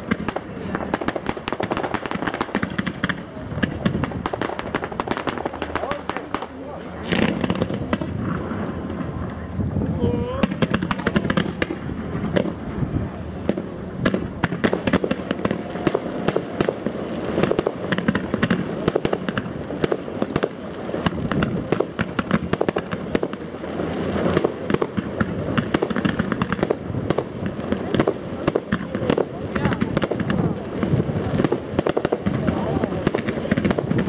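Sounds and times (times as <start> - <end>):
fireworks pops bangs and crackling: 0.0 - 34.0.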